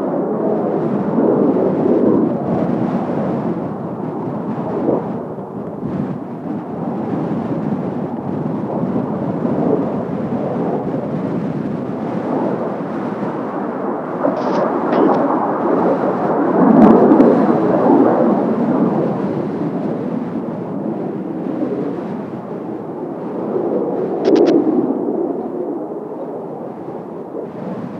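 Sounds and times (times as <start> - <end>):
jet aircraft roar overhead: 0.0 - 27.9.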